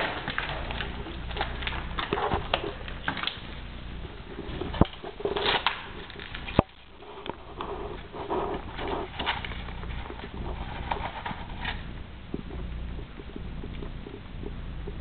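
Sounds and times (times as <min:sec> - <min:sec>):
rustling and handling noises: 0:00.0 - 0:15.0.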